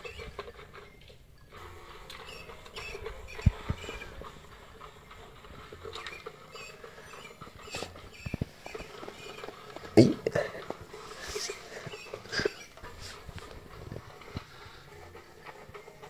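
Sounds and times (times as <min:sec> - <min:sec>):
paws scratching plastic toy: 0:00.0 - 0:16.0.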